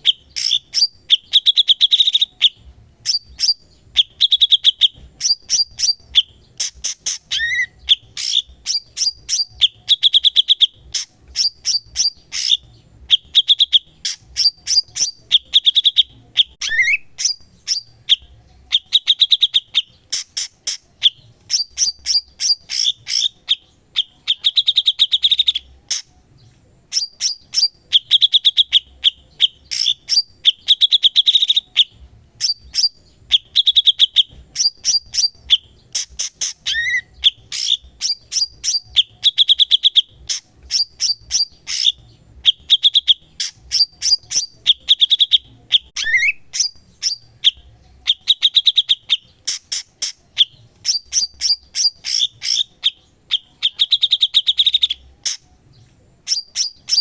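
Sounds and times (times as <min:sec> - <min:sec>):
bird singing with rattling trills: 0:00.0 - 0:57.0.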